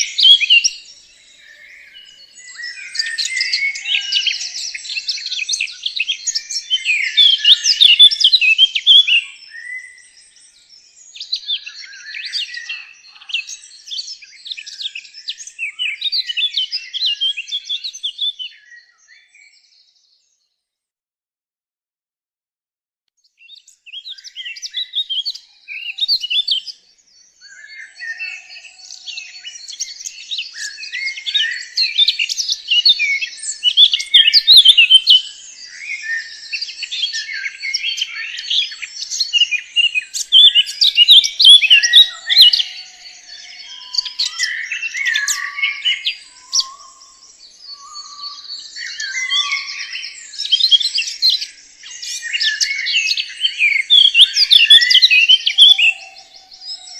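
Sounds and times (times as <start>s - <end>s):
birds chirping and singing: 0.0s - 20.4s, 23.4s - 56.9s.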